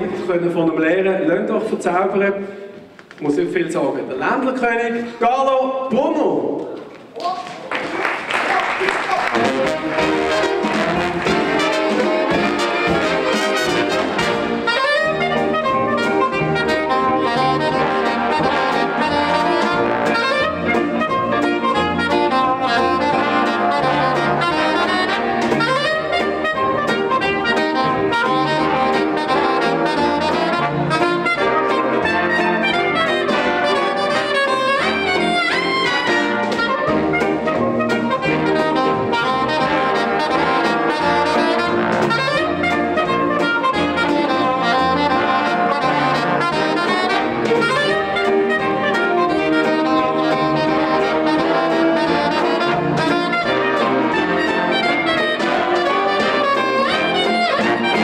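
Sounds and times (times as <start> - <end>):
big band playing: 0.0 - 58.0
solo clarinet fast runs: 8.5 - 58.0.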